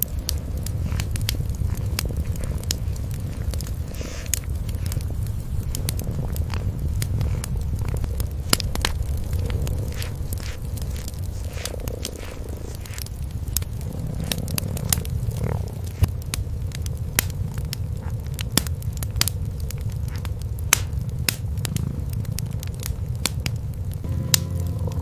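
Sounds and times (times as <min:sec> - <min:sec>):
cats purring: 0:00.0 - 0:25.0
wood fire crackling and popping: 0:00.0 - 0:25.0.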